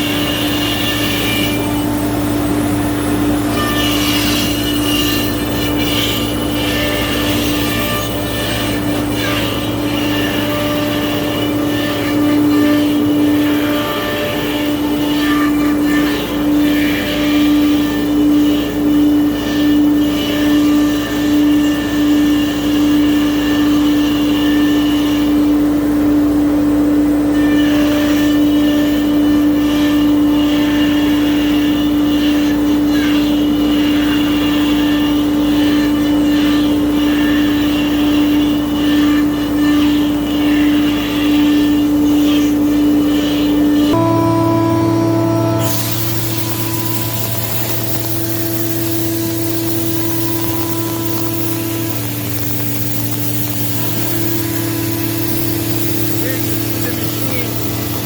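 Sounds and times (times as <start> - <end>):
router spindle whine: 0.0 - 58.0.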